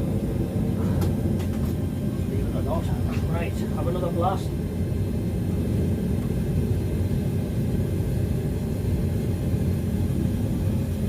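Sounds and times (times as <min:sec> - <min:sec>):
gas burner roaring: 0:00.0 - 0:11.0.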